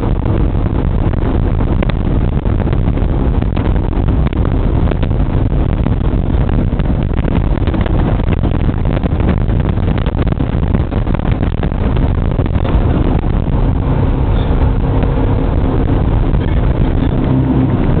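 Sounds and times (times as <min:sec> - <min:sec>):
jet boat engine and water rush: 0:00.0 - 0:18.0
low engine hum: 0:00.0 - 0:18.0.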